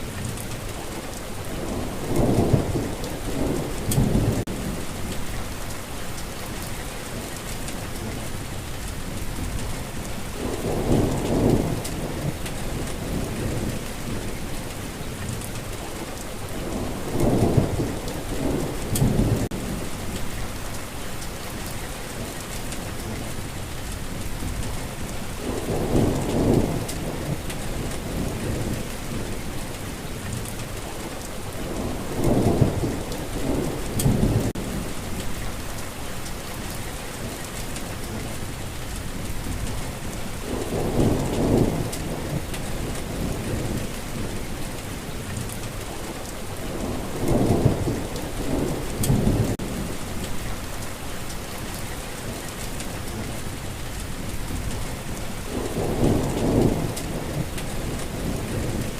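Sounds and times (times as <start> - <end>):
steady rain: 0.0 - 58.9
thunder rumbling: 1.4 - 6.7, 9.0 - 15.7, 16.5 - 20.7, 22.5 - 58.9.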